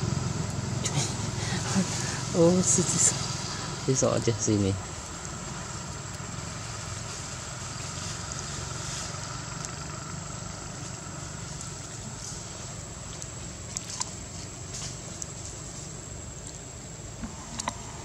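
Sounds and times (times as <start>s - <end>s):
engine-like low rumble: 0.0s - 18.0s
faint high hiss: 0.0s - 18.0s.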